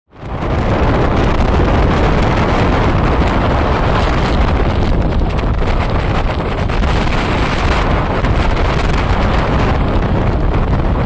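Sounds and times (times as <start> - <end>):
storm wind buffeting microphone: 0.1 - 11.0.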